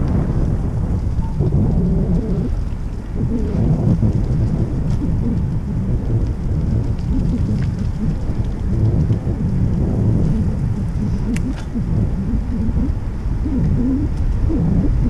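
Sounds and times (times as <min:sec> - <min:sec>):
faint ticks: 0:00.0 - 0:15.0
wind buffeting microphone: 0:00.0 - 0:15.0.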